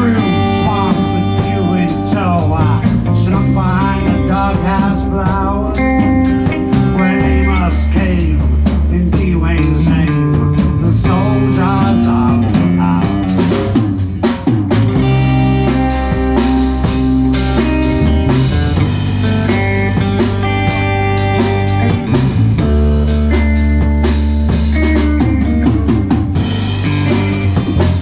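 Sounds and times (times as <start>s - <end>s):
bass guitar: 0.0s - 28.0s
drum kit with rimshots: 0.0s - 28.0s
lead guitar bending notes: 0.0s - 28.0s.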